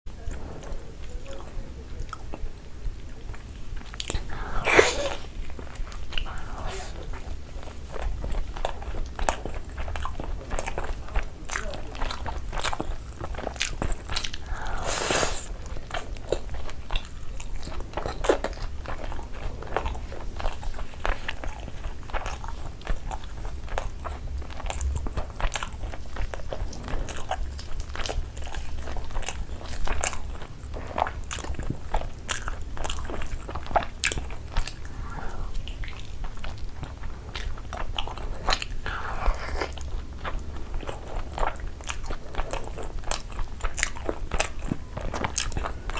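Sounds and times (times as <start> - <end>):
chewing and crunching: 0.1 - 45.9.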